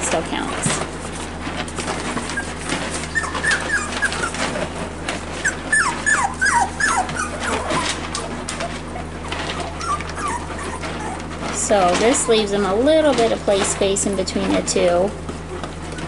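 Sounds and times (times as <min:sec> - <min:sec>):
puppies whimpering: 0:00.0 - 0:16.0.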